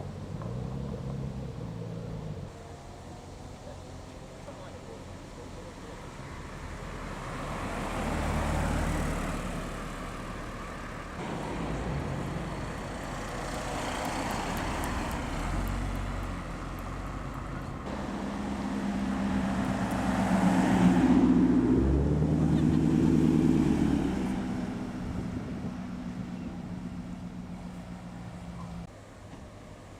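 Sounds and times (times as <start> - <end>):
cars driving past: 0.0 - 29.9.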